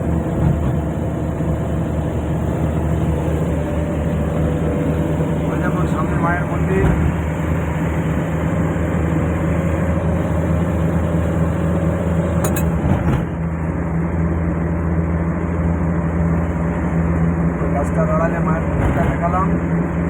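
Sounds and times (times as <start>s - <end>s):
road noise rumble: 0.0s - 20.0s
vehicle engine hum: 0.0s - 20.0s.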